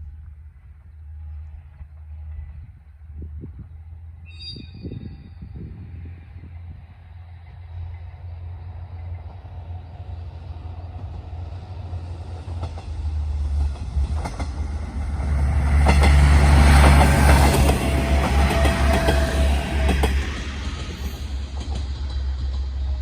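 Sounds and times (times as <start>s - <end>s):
diesel railcar passing: 0.0s - 23.0s.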